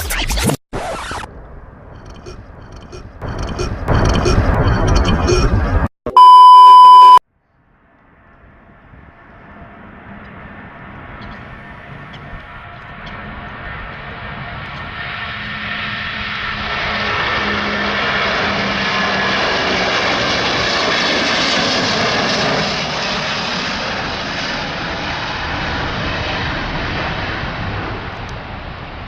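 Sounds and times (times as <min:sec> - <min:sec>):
jet engines roaring and whining: 0:00.8 - 0:05.9, 0:08.4 - 0:29.0.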